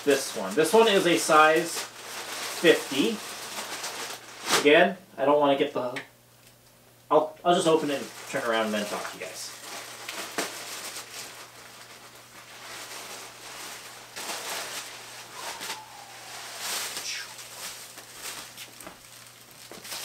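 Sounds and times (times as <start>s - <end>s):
plastic bag crinkling: 0.0s - 4.6s, 7.6s - 20.0s.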